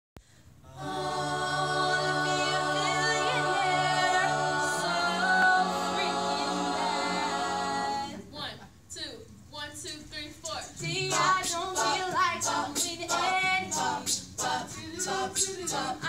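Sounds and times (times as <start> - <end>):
a cappella choir singing: 0.7 - 8.3, 10.7 - 16.0.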